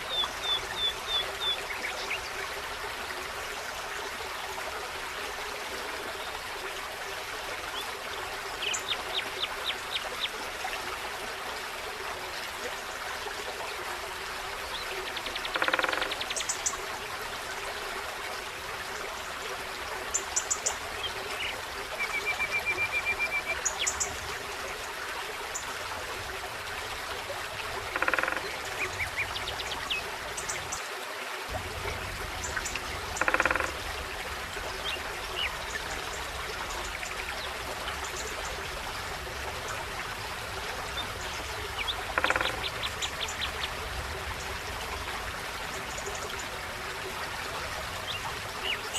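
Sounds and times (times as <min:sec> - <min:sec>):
stream running: 0:00.0 - 0:48.9.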